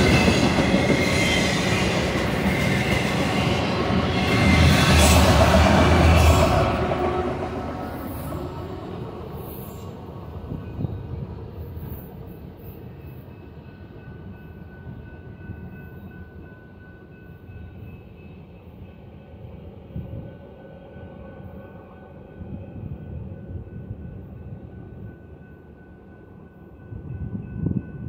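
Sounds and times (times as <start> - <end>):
freight train cars rumbling: 0.0 - 25.4.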